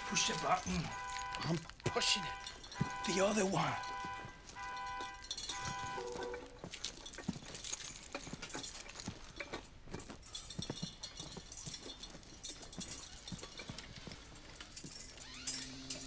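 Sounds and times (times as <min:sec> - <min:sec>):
small metallic clinks: 0:00.0 - 0:16.0.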